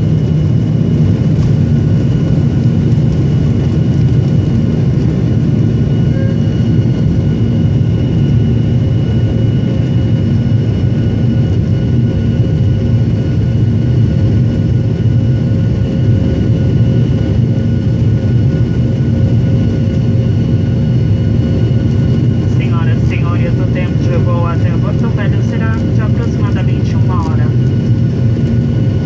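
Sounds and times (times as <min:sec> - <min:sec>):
jet engine rumble in cabin: 0:00.0 - 0:29.0
jet engine whining tones: 0:00.0 - 0:29.0.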